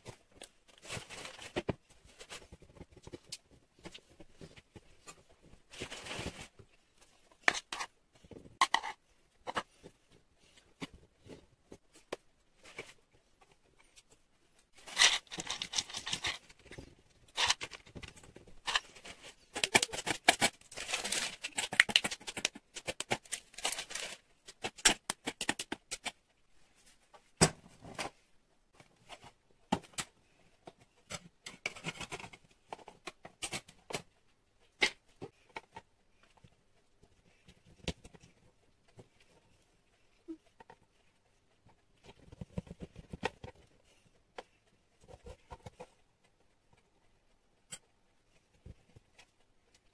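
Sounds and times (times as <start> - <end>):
rustling: 0.0 - 49.9.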